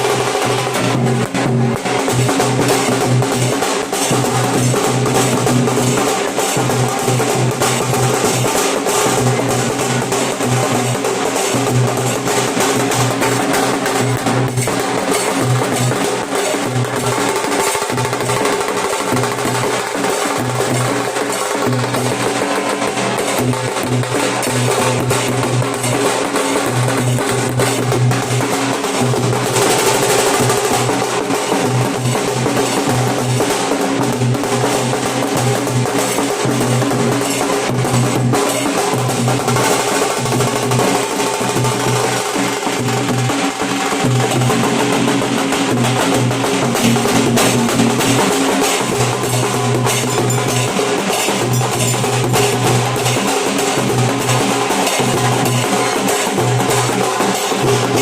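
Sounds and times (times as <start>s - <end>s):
dhol drums beaten together: 0.0s - 58.0s.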